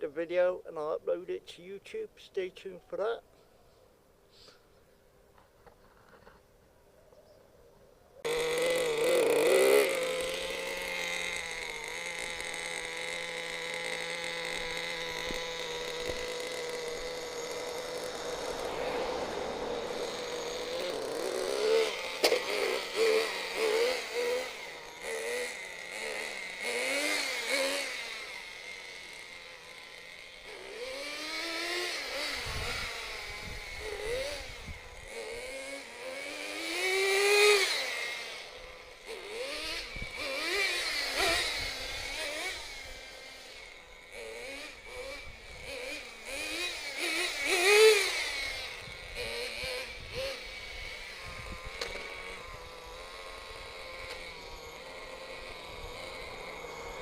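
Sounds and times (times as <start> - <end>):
small glow engine revving: 8.2 - 57.0.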